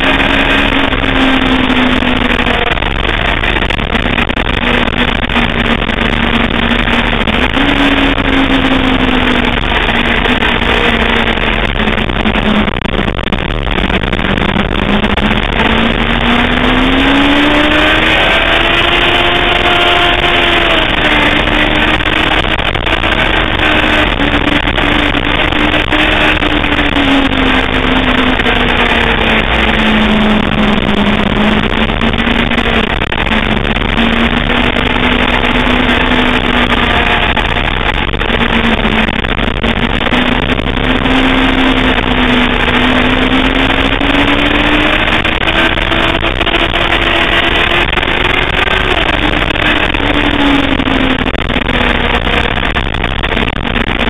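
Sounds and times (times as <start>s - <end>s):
motorcycle engine at speed: 0.0s - 54.0s
wind noise: 0.0s - 54.0s.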